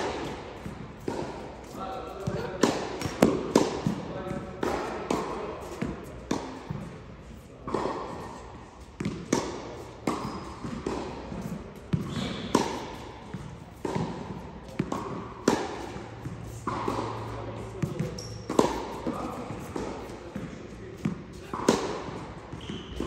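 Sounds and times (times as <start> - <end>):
tennis ball bouncing: 0.0 - 7.0, 7.6 - 23.0
racket hitting tennis ball: 0.0 - 23.0.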